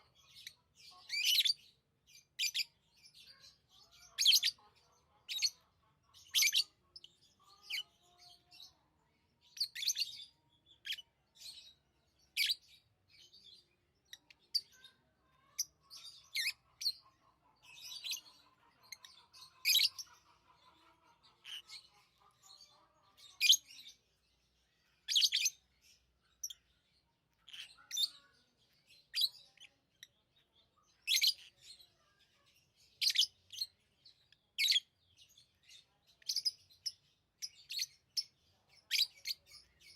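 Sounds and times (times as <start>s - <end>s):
lovebirds chattering warble: 0.0s - 39.9s
lovebirds chirping: 0.0s - 39.9s.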